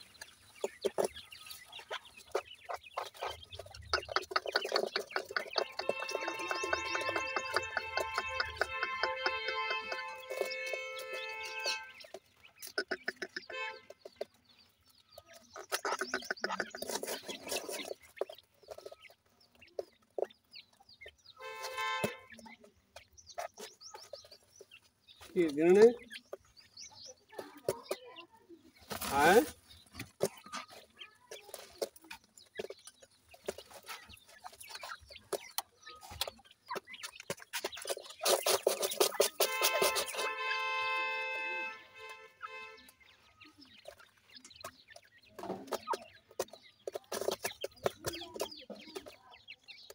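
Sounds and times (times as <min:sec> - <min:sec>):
beaks pecking food from a hand: 0:00.0 - 0:49.9
birds clucking and calling: 0:00.0 - 0:49.9
chicks peeping: 0:00.0 - 0:49.9.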